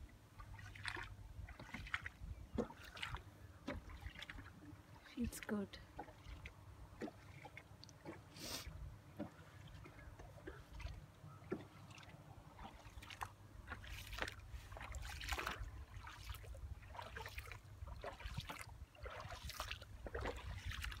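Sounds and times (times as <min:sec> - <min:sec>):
water splashing and lapping: 0:00.0 - 0:21.0.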